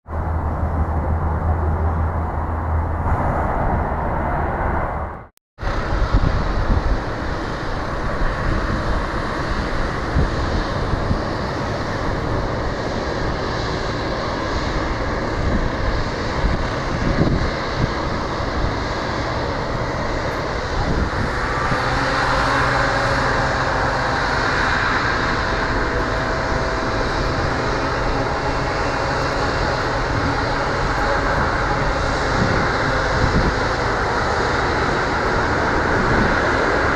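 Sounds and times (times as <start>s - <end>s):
jet engines rumbling: 0.0s - 36.9s
high engine whine: 0.1s - 36.9s.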